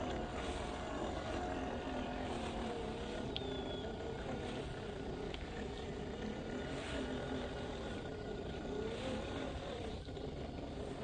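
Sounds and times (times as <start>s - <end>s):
driving through shallow water: 0.0s - 11.0s
electric motor whining: 0.0s - 11.0s.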